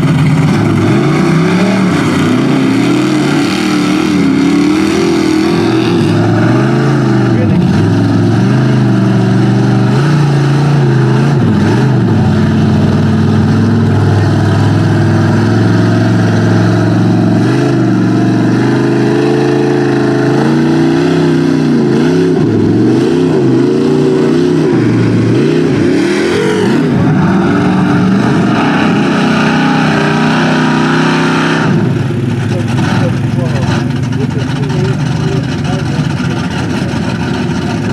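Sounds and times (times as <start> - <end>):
truck engine revving: 0.0 - 37.9.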